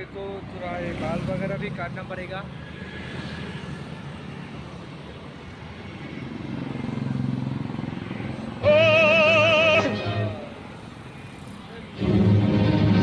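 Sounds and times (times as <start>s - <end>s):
road traffic noise: 0.0s - 13.0s
vehicle passing: 0.0s - 13.0s.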